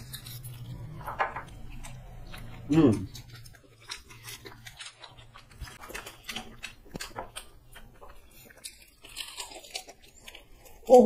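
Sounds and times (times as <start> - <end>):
chewing and biting fried chicken: 0.0 - 11.0.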